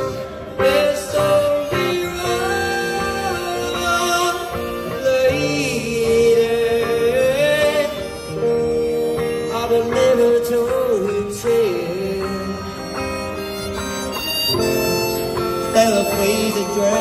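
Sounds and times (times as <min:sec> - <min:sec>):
band playing pop song: 0:00.0 - 0:17.0
bending electric guitar melody: 0:00.0 - 0:17.0.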